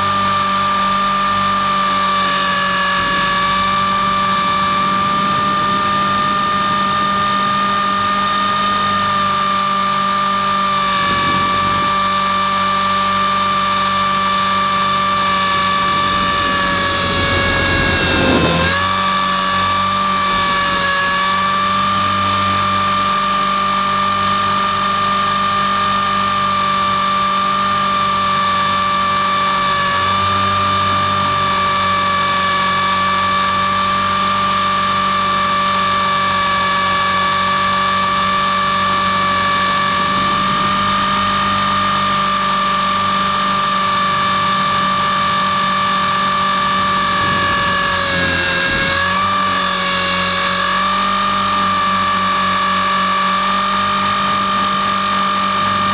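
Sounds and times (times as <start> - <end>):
rc helicopter whine: 0.0 - 55.9.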